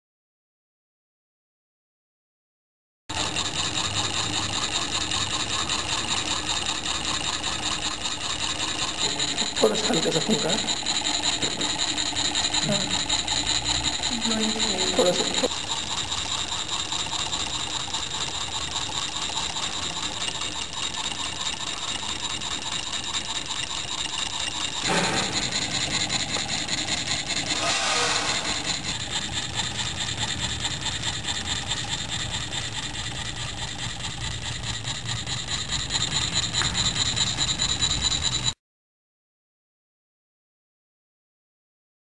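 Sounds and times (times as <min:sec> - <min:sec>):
stirling engine clattering: 0:03.1 - 0:38.5.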